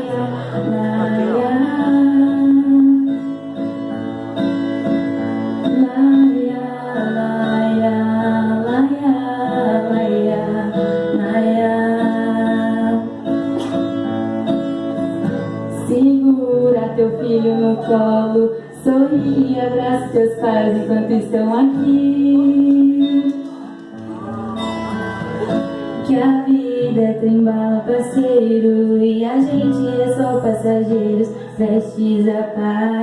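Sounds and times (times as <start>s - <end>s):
acoustic guitar playing: 0.0s - 33.0s.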